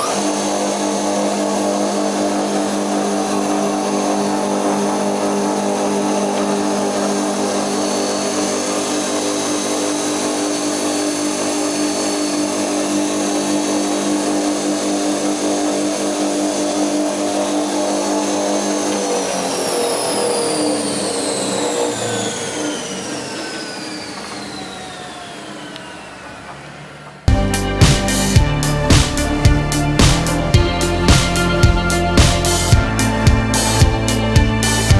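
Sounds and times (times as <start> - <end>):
spindle moulder humming and spinning down: 0.0 - 34.9.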